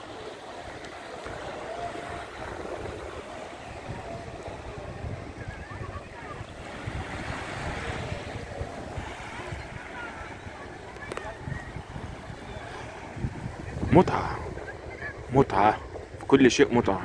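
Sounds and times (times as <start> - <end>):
sea waves washing on shore: 0.0 - 17.0
wind gusting on microphone: 0.0 - 17.0.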